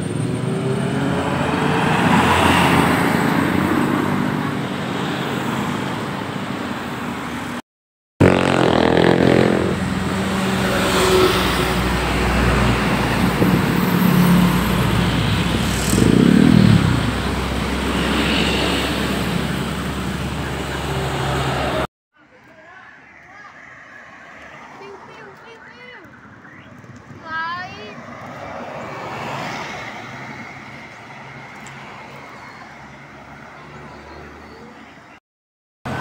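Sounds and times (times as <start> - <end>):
bus engines passing: 0.0 - 7.6, 8.2 - 35.2.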